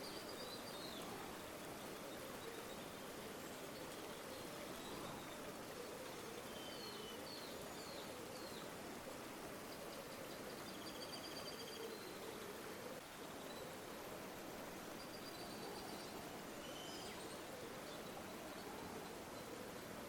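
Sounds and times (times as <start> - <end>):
river flowing: 0.0 - 20.0.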